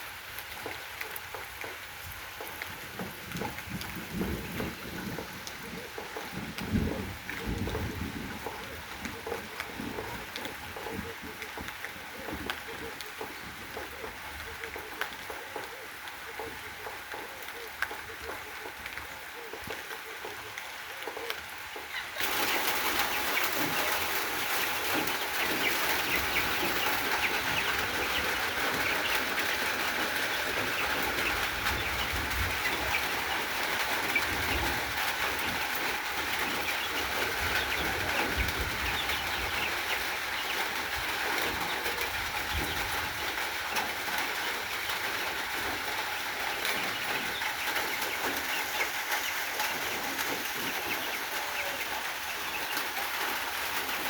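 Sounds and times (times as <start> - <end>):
chickens clucking: 0.4 - 54.0.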